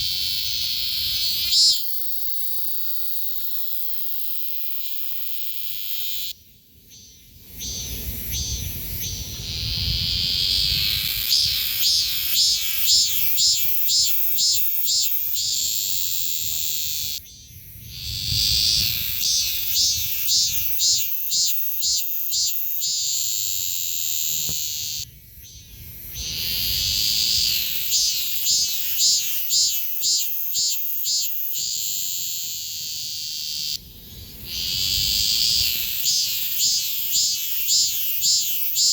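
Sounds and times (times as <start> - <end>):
cicada buzzing: 0.0 - 38.9.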